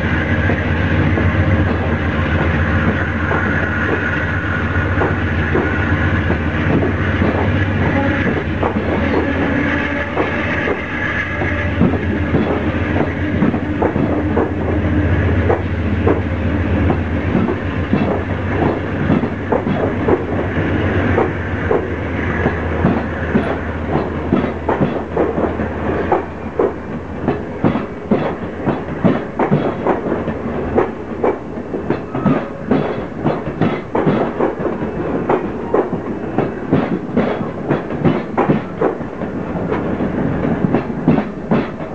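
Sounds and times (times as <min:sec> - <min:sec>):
train wheels clicking over rail joints: 0:00.0 - 0:41.9.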